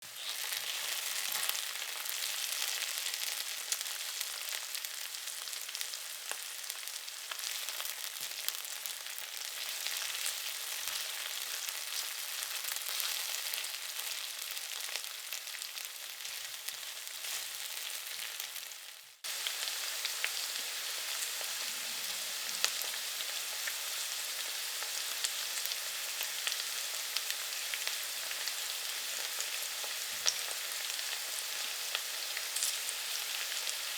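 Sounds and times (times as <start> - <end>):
food frying in hot oil: 0.0 - 33.9.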